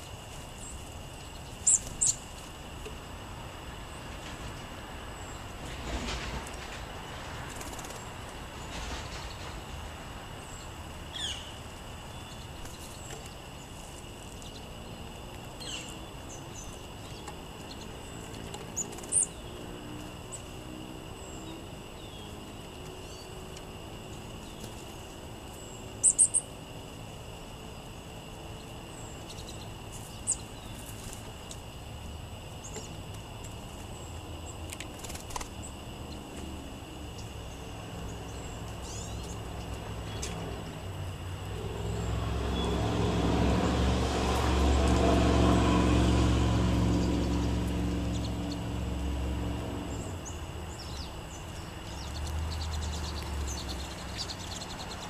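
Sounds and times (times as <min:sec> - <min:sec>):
songbirds chirping: 0:00.0 - 0:55.0
steady background noise: 0:00.0 - 0:55.0.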